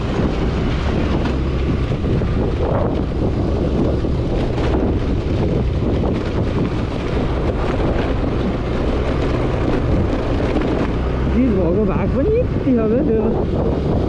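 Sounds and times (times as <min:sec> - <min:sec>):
scooter rumble on dirt road: 0:00.0 - 0:14.0
wind buffeting microphone: 0:00.0 - 0:14.0.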